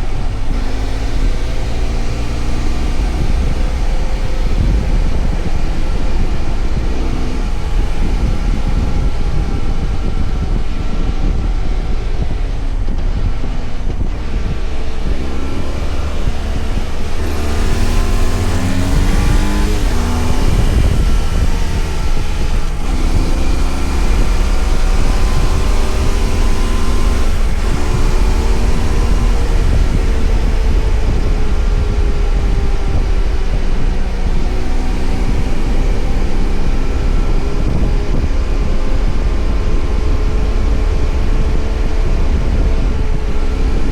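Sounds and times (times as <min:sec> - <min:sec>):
motorcycle engine running: 0:00.0 - 0:43.9
wind rumble: 0:00.0 - 0:43.9.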